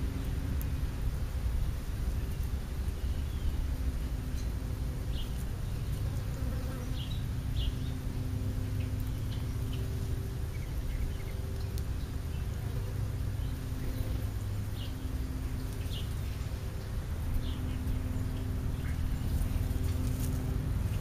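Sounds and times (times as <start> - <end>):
low buzzing hum: 0.0 - 21.0
sparrows chirping: 1.6 - 21.0.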